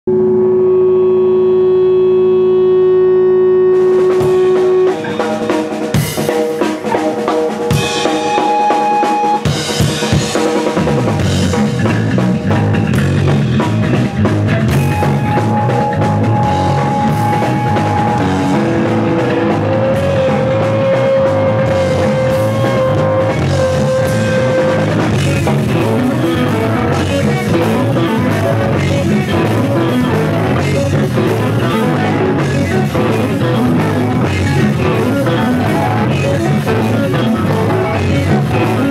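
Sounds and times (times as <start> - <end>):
bass guitar: 0.0 - 38.9
electric guitars: 0.1 - 38.9
drum kit: 3.5 - 38.9.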